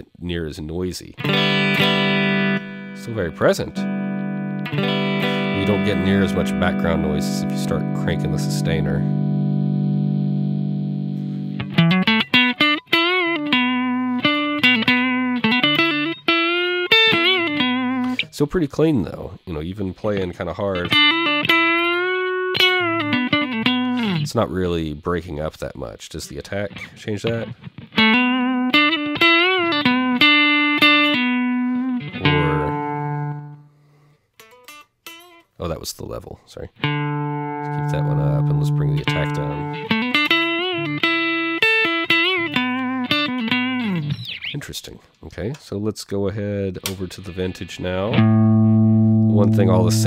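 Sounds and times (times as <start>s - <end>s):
clean electric guitar: 1.2s - 18.4s, 20.1s - 24.4s, 26.7s - 33.8s, 34.4s - 35.6s, 36.7s - 44.6s, 46.7s - 50.0s.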